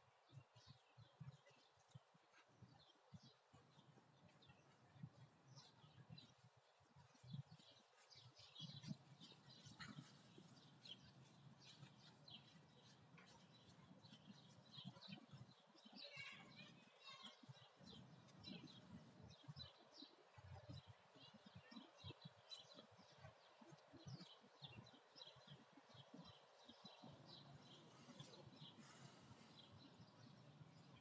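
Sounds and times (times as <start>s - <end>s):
birdsong: 0.0s - 31.0s.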